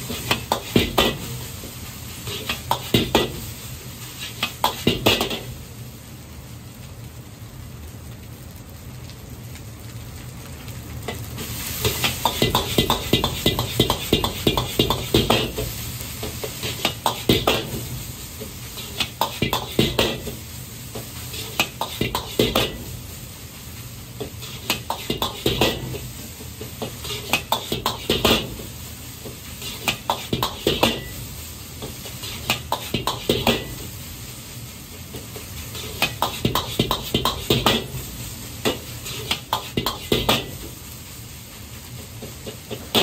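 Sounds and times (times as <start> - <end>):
rice sizzling: 0.0 - 43.0.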